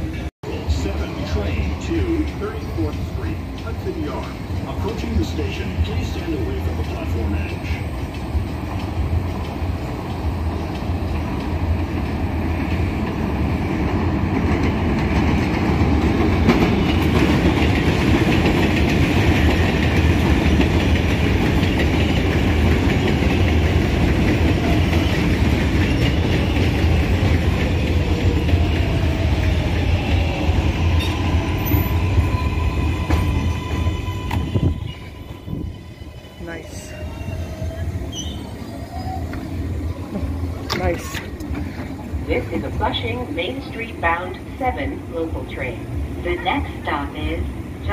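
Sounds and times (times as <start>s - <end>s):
subway train wheels rumbling on rail: 0.0s - 47.9s.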